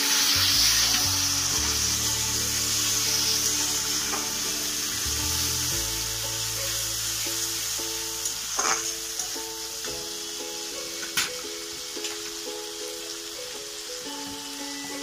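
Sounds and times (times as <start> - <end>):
background music with held notes: 0.0 - 15.0
tomatoes sizzling in hot oil: 0.0 - 15.0.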